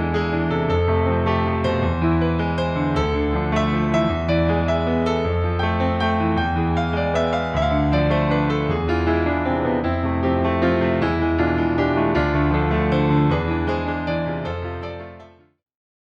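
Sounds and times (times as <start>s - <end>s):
piano music: 0.0s - 15.6s.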